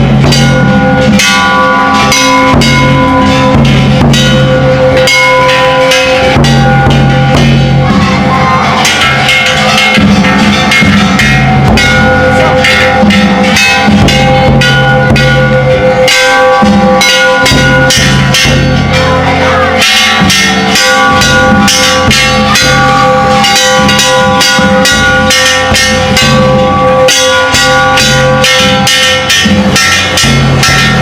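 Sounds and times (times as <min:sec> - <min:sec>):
bronze gongs ringing: 0:00.0 - 0:31.0
large taiko drum: 0:00.0 - 0:31.0.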